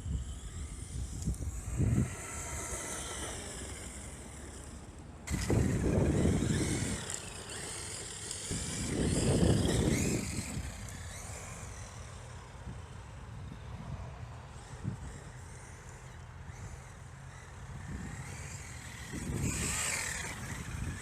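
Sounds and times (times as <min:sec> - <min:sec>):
rc truck motor whine: 0:00.0 - 0:21.0.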